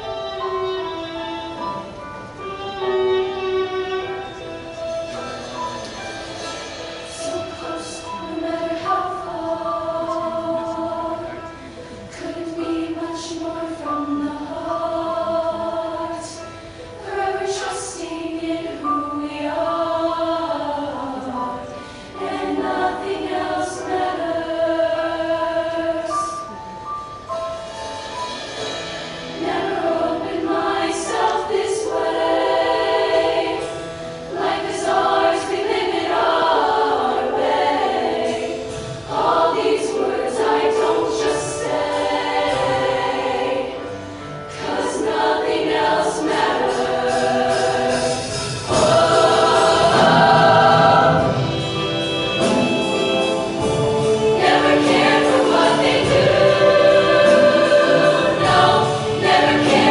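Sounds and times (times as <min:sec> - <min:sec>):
girls' choir singing in harmony: 0:00.0 - 0:26.8, 0:27.6 - 0:59.9.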